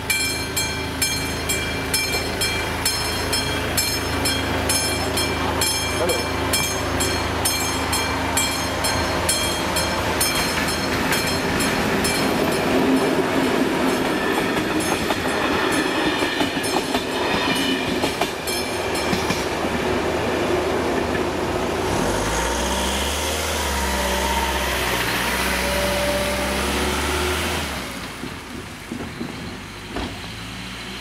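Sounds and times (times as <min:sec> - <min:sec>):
train wheels clattering on rails: 0:00.0 - 0:22.4, 0:27.7 - 0:30.5.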